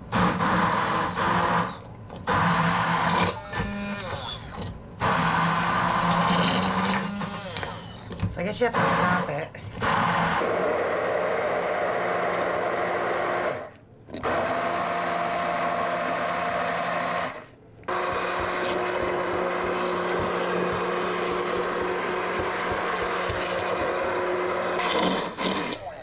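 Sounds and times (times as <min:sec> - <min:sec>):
blender motor running: 0:00.0 - 0:08.0, 0:08.6 - 0:25.8.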